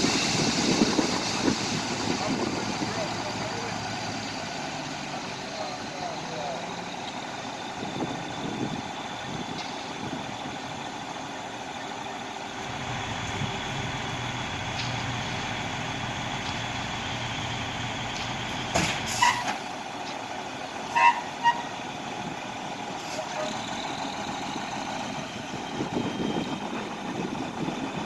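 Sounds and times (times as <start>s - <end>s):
heavy truck engine running: 0.0s - 28.0s.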